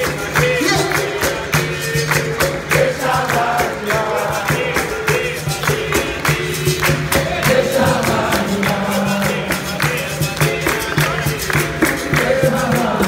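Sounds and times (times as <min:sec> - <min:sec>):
group call-and-response singing: 0:00.0 - 0:13.0
hand drum: 0:00.0 - 0:13.0
handclaps: 0:00.0 - 0:13.0.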